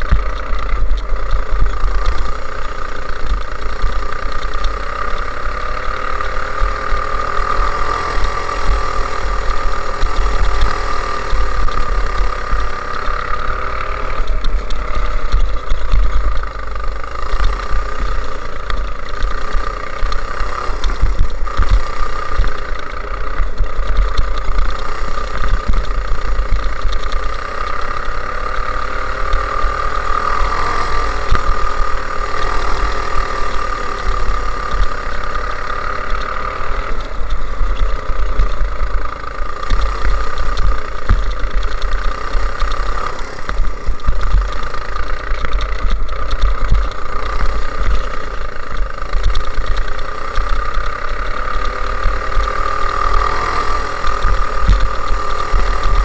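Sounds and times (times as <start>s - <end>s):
go-kart engine revving: 0.0s - 56.0s
heavy low rumble: 0.0s - 56.0s.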